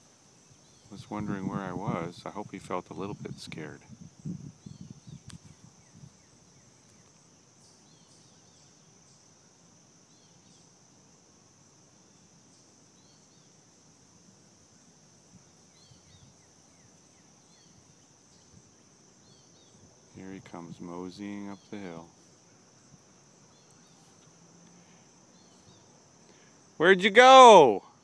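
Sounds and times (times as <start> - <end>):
insect trill: 0.0 - 28.0.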